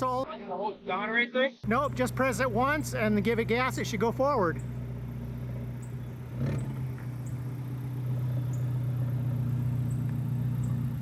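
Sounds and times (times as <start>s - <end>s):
car engine at low revs: 1.6s - 11.0s.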